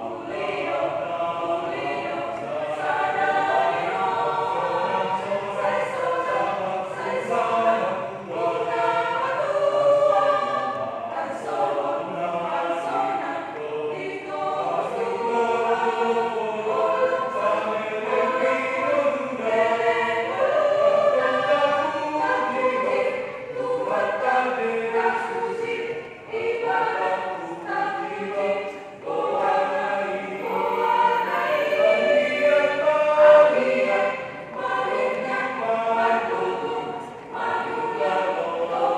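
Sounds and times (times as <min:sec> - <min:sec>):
group of voices singing: 0:00.0 - 0:38.9.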